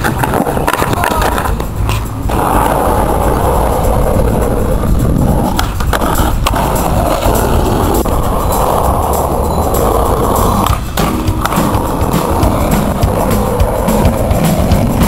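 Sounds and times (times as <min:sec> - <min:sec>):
skateboard clacks: 0:00.0 - 0:15.0
skateboard wheels rolling: 0:00.0 - 0:15.0.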